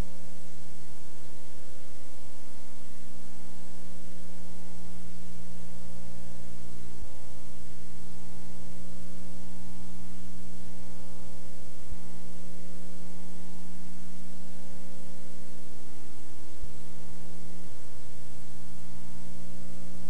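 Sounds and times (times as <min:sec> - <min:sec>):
electrical hum over hiss: 0:00.0 - 0:20.0.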